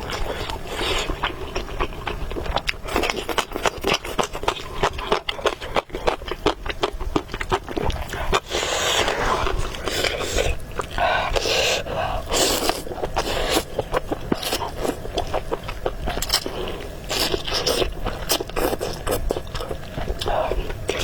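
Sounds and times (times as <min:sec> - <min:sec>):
slurping and chewing: 0:00.0 - 0:21.0.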